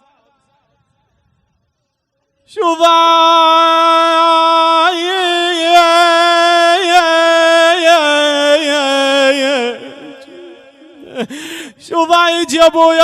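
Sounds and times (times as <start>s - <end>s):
man singing mourning lament: 2.5s - 13.0s.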